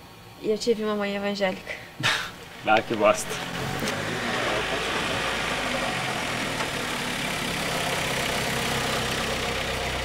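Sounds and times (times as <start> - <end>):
vehicle engine idling: 0.2 - 10.0.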